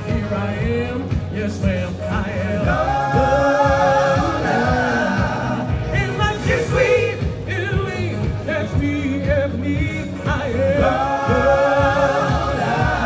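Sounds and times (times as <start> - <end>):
backing track with steady beat: 0.0 - 13.0
male ensemble singing: 0.0 - 13.0.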